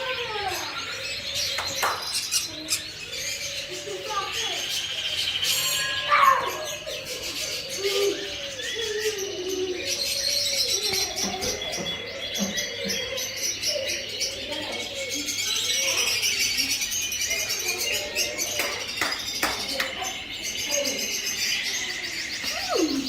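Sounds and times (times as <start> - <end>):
birds chirping and twittering: 0.0 - 23.0
pigeons cooing: 0.0 - 23.0.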